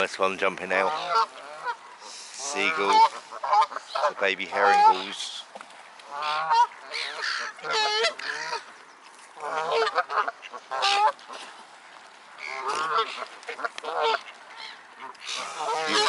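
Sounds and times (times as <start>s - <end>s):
geese honking: 0.7s - 5.4s, 6.0s - 8.7s, 9.4s - 11.5s, 12.4s - 16.0s.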